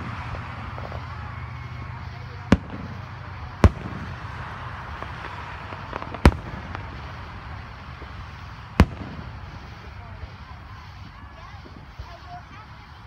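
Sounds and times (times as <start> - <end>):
faint firework pops: 0.0 - 12.3
background noise: 0.0 - 13.0
firework shells bursting: 0.0 - 13.0.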